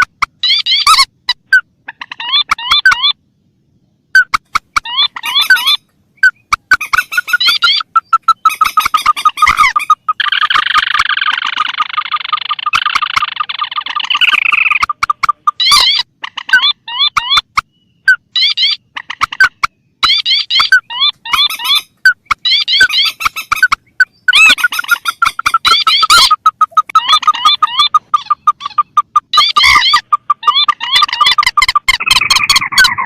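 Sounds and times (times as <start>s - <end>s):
rapid stuttering bird call: 0.0s - 3.2s, 4.2s - 33.0s
short curved chirping bird notes: 3.8s - 33.0s.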